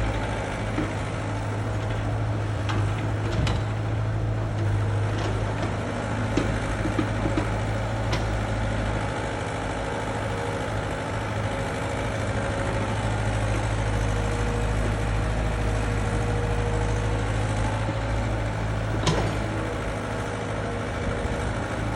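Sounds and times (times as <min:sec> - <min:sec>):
excavator diesel engine humming: 0:00.0 - 0:21.9.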